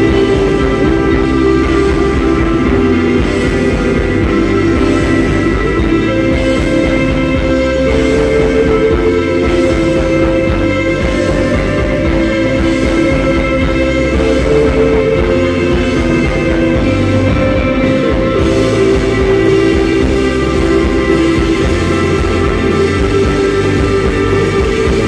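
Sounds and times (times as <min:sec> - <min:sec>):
rock music with guitars: 0:00.0 - 0:25.0.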